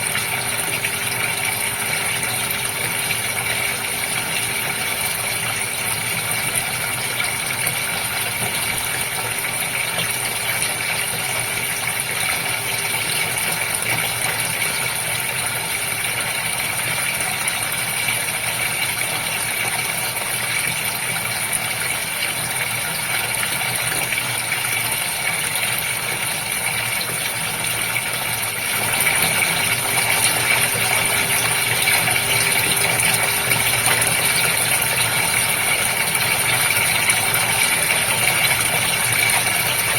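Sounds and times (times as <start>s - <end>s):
aquarium pump humming: 0.0s - 39.9s
moving water: 0.0s - 39.9s.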